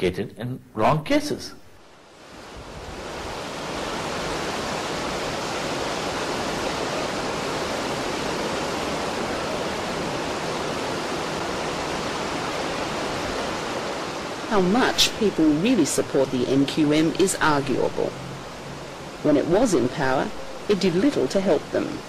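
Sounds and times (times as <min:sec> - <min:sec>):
waves breaking on a beach: 0:02.0 - 0:22.0.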